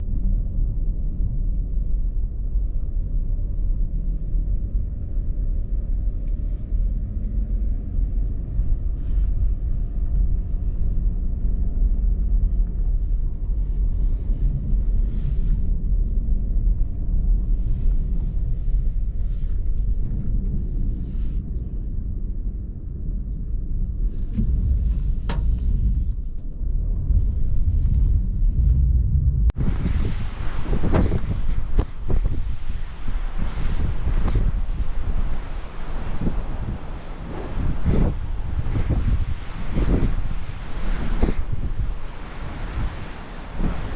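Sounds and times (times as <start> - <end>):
gusty wind buffeting microphone: 0.0 - 43.9.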